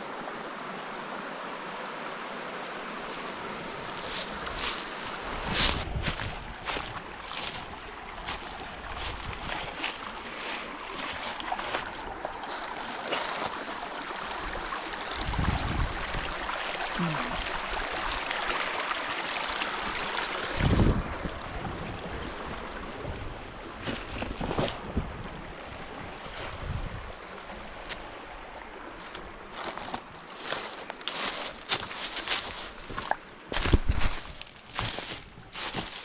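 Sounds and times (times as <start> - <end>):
stream water flowing: 0.0 - 36.0.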